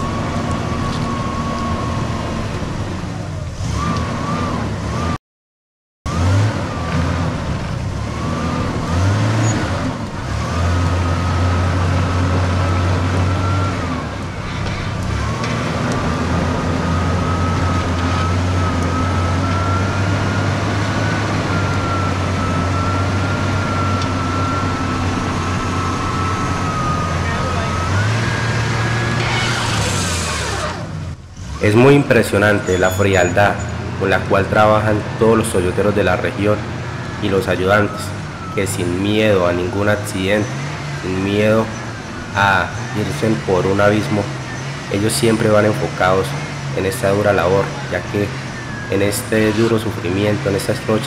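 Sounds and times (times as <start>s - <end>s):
engine running hard: 0.0s - 5.2s, 6.1s - 51.0s.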